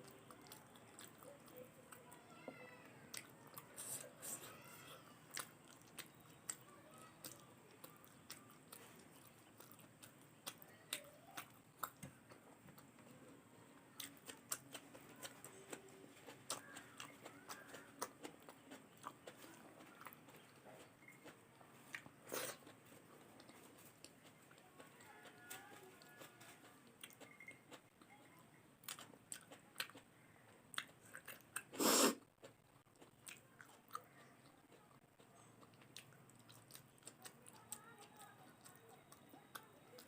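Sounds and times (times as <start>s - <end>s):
person chewing: 0.0s - 2.2s, 3.1s - 4.6s, 5.3s - 28.2s, 28.8s - 40.0s.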